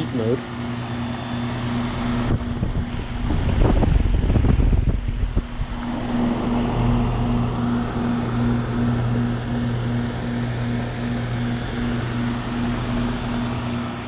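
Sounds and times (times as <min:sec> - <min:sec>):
heat pump low hum: 0:00.0 - 0:14.0
loud rushing rumbling noise: 0:02.0 - 0:13.9.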